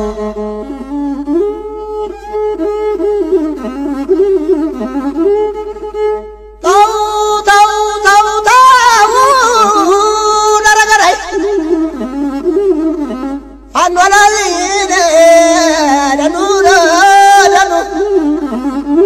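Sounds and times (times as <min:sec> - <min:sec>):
bowed fiddle melody: 0:00.0 - 0:19.0.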